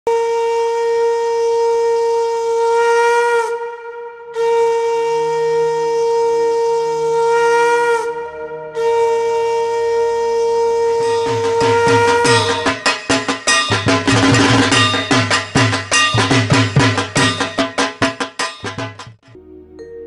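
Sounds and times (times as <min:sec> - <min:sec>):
conch shell blasts: 0:00.1 - 0:18.9.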